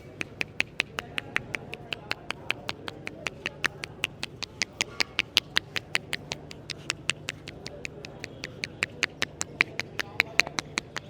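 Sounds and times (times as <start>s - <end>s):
hands slapping a head: 0.0s - 11.0s.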